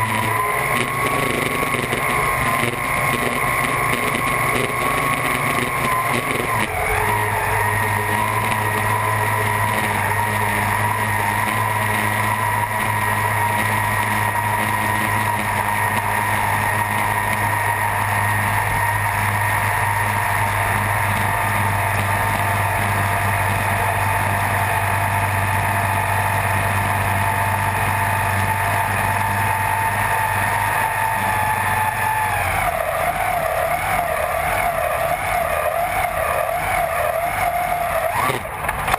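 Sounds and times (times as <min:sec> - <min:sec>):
racing boat engine at high pitch: 0:00.0 - 0:38.9.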